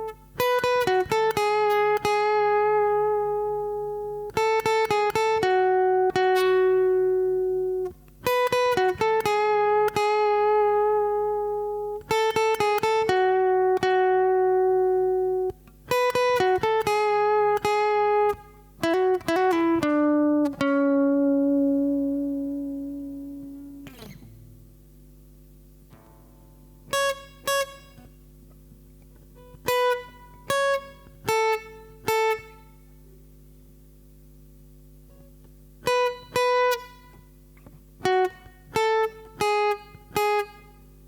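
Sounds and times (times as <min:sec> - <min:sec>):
guitar plucked notes: 0:00.0 - 0:41.0.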